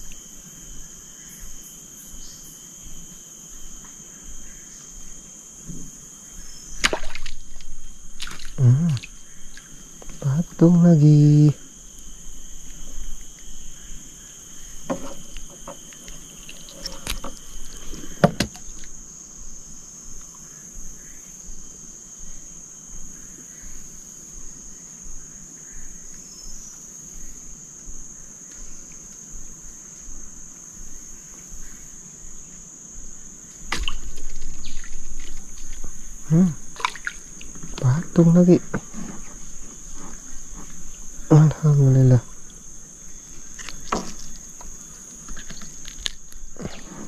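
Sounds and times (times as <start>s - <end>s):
insects shrilling: 0.0s - 47.0s.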